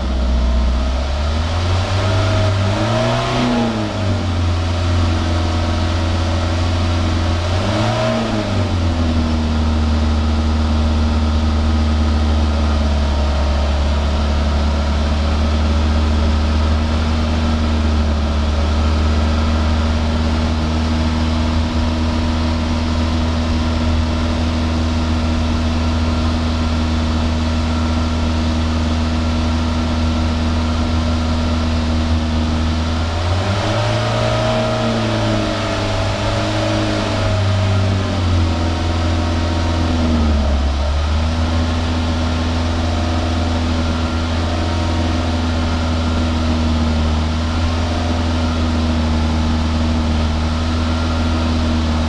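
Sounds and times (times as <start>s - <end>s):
car engine revving and idling: 0.0s - 52.0s.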